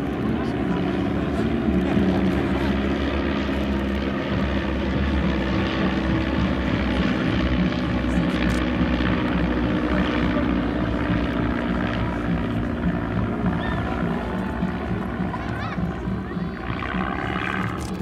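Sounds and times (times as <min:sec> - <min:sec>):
propeller aircraft droning overhead: 0:00.0 - 0:18.0.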